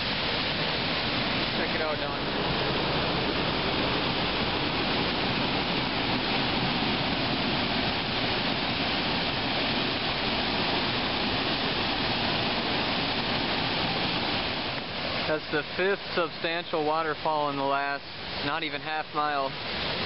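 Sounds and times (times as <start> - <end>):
whitewater rushing: 0.0 - 20.0.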